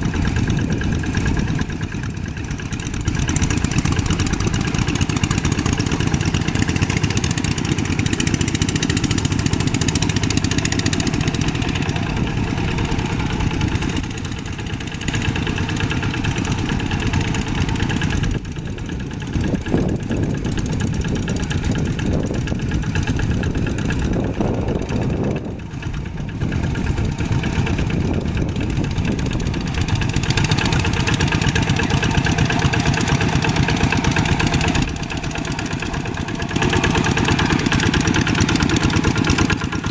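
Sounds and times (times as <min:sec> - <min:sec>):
old tractor engine running: 0:00.0 - 0:39.9.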